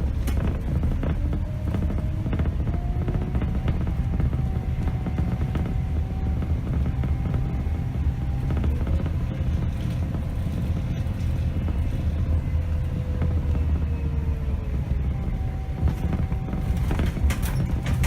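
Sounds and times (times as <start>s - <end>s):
bus diesel engine rumbling: 0.0s - 18.0s
faint engine whine: 0.0s - 18.0s
light rattles: 0.0s - 18.0s.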